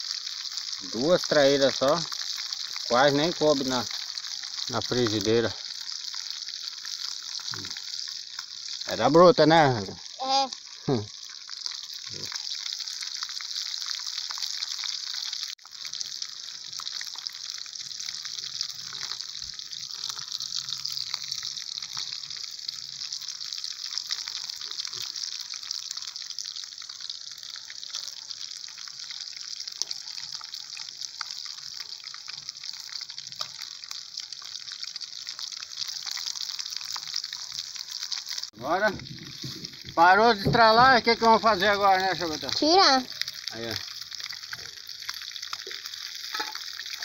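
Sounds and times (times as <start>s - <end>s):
fish sizzling in hot oil: 0.0s - 47.0s.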